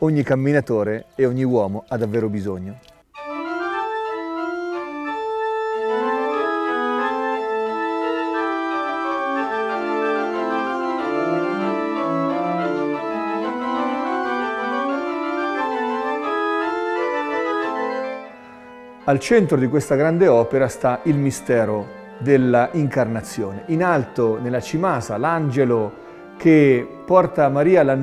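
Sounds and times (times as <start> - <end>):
organ chords: 0.0 - 28.0.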